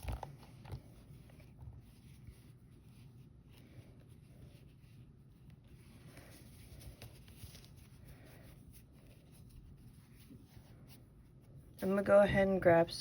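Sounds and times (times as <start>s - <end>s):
low room hum: 0.0s - 13.0s
yarn and crochet hook rustling: 0.0s - 13.0s.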